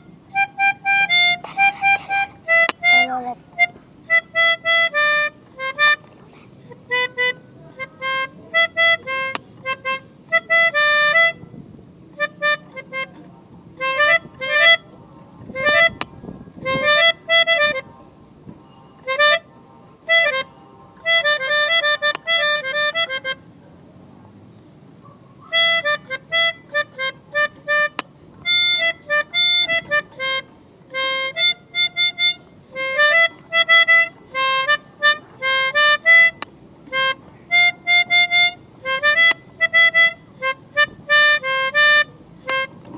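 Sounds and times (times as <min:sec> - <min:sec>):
melodica staccato tune: 0:00.0 - 0:17.9, 0:19.0 - 0:19.5, 0:20.1 - 0:23.5, 0:25.4 - 0:42.9.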